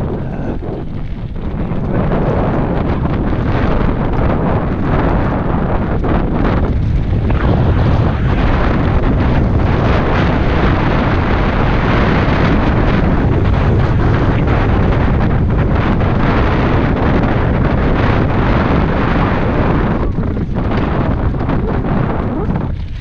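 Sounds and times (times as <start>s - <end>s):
bike tyres crunching over rocks: 0.0s - 23.0s
wind buffeting microphone: 0.0s - 23.0s.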